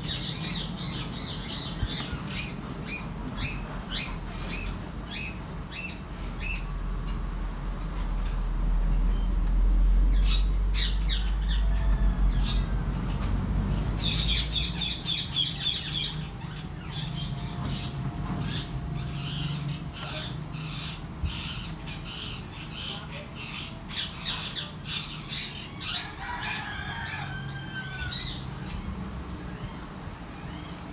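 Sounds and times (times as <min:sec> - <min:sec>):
parakeet chicks squawking: 0:00.0 - 0:06.8, 0:10.1 - 0:30.9.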